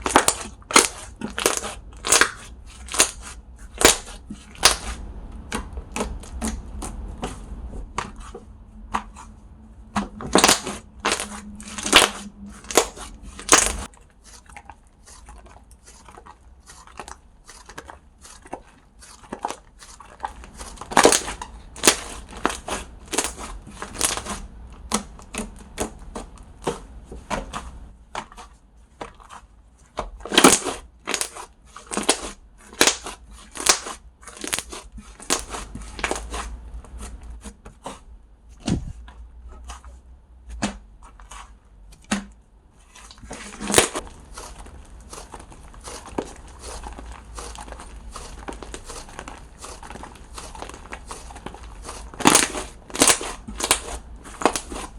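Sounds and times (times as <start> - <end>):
slime squished by hand: 0.0 - 38.0, 39.6 - 54.9.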